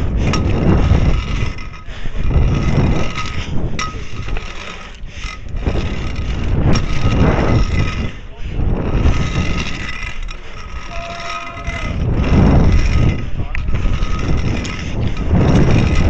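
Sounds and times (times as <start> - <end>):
scooter wheels rolling on concrete: 0.0 - 16.0
wind on microphone: 0.0 - 16.0.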